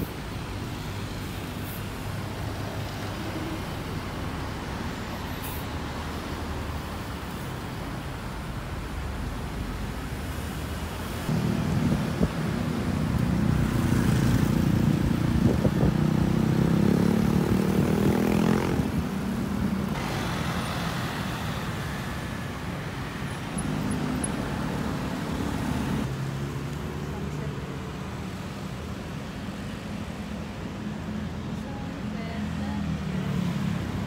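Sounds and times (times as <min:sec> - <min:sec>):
cars and motorbikes passing: 0:00.0 - 0:34.0.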